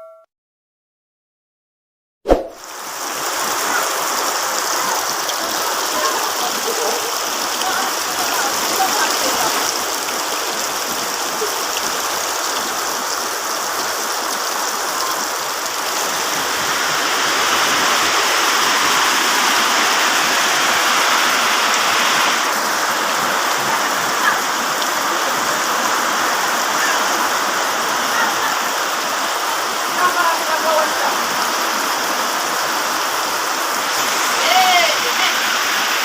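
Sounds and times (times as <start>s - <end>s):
heavy rain pouring: 2.6s - 36.0s.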